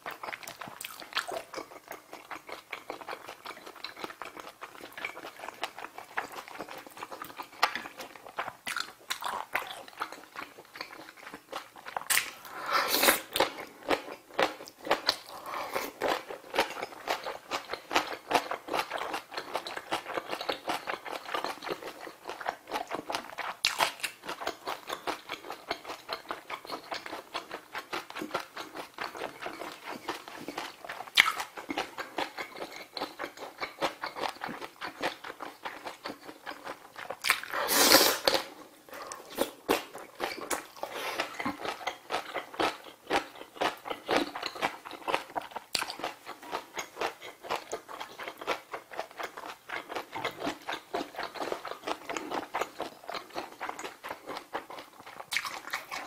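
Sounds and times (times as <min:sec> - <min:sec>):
biting and chewing food: 0:00.0 - 0:56.0.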